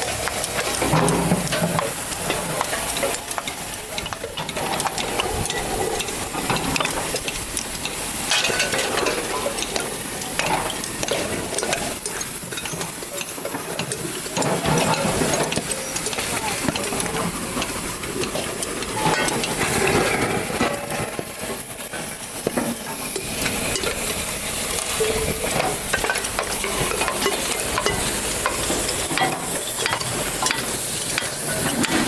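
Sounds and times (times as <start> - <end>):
scrap metal scraping and clinking: 0.1 - 32.0.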